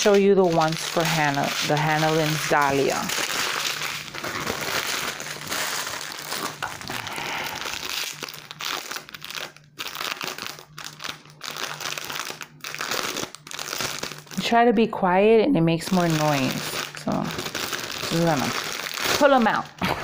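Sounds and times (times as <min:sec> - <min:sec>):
plastic packaging crinkling: 0:00.0 - 0:14.5, 0:15.8 - 0:19.8.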